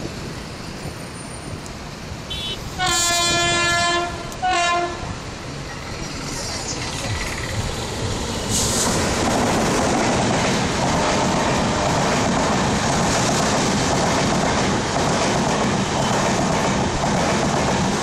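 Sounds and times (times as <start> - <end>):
train passing at speed: 0.0 - 18.0
wheel and rail noise: 0.0 - 18.0.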